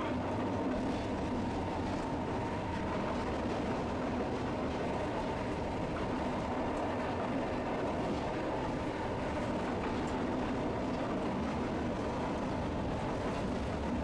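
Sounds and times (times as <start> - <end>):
streetcar motor and wheels on rail: 0.0 - 14.0.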